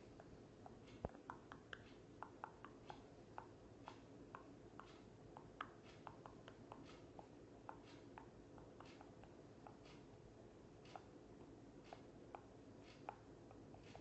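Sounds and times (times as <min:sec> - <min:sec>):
faint irregular clicks: 0:00.1 - 0:14.0.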